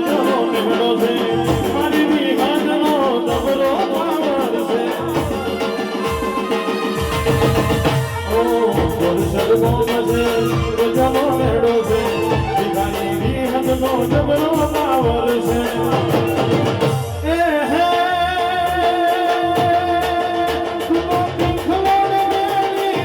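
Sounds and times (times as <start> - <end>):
held melody: 0.0 - 19.1
steady drum beat: 0.0 - 23.0.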